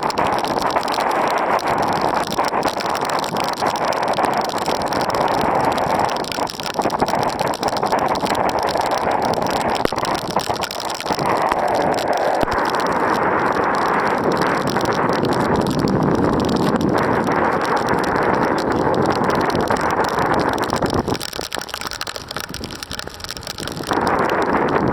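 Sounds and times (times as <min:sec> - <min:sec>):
heavy rain and wind: 0:00.0 - 0:24.9.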